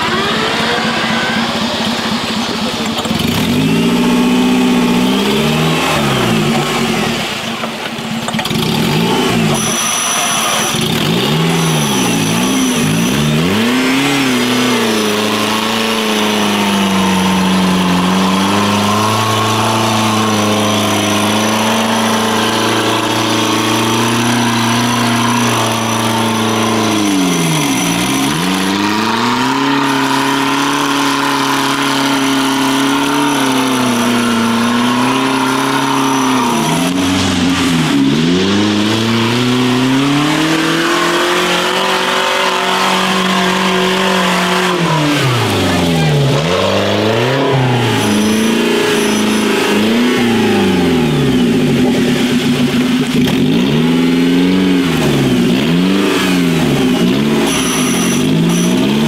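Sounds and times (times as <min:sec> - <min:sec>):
engine revving at high revs: 0:00.0 - 0:59.0.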